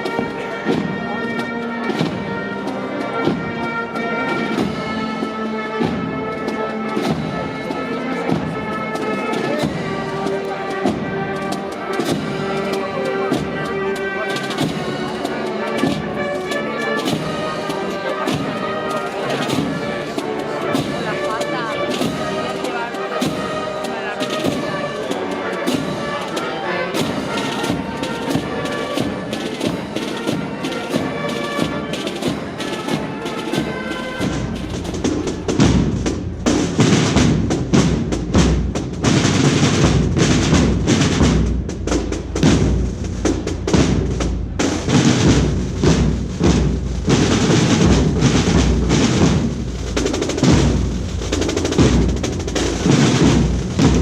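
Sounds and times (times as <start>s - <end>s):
heavy drumming with snare rolls: 0.0s - 54.0s
wind instruments playing melody: 0.0s - 54.0s.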